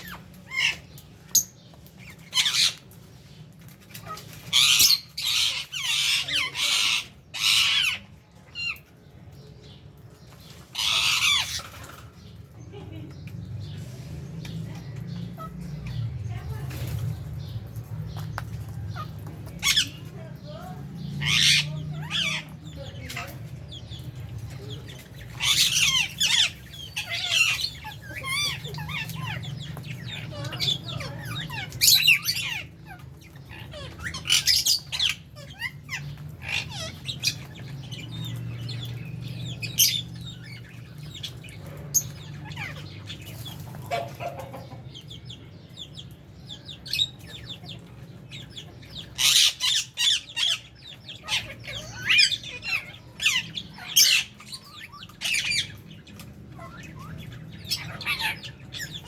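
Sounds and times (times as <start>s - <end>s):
birds chirping and screeching: 0.0s - 59.0s.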